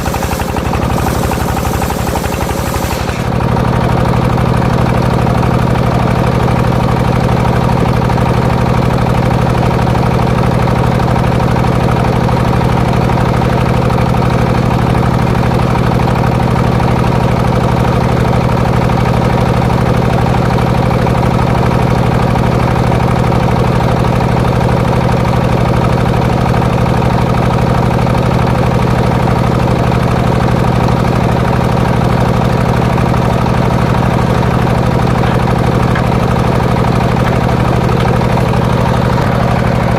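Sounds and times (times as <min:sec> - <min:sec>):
engine running with low hum: 0:00.0 - 0:39.9.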